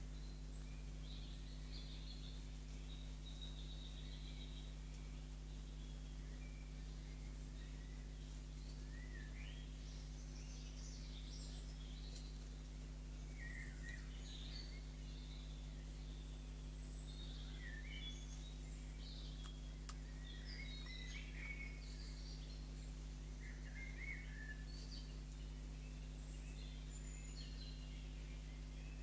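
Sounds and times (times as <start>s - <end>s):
low electrical hum: 0.0s - 29.0s
songbirds warbling and chirping: 0.0s - 29.0s.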